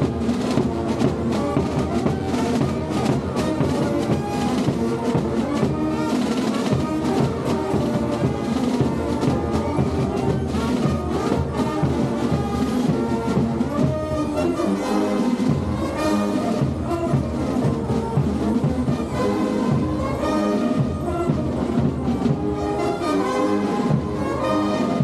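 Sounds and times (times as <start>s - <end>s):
brass band playing folk dance tune: 0.0s - 25.0s.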